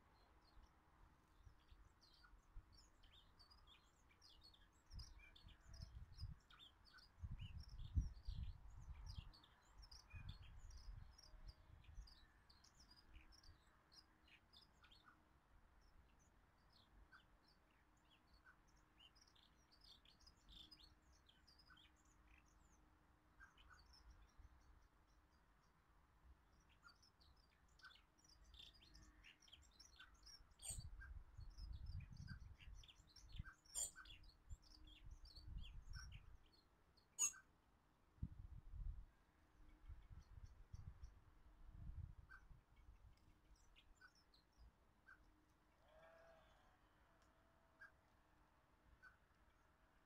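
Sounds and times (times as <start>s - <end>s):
small birds chirping: 0.0s - 37.8s, 38.8s - 46.6s.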